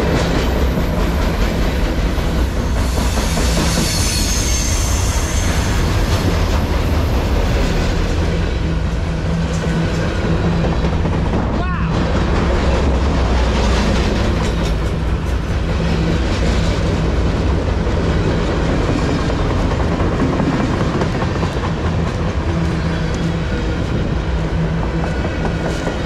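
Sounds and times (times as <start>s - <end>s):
freight train wheels clickety-clack: 0.0s - 26.0s.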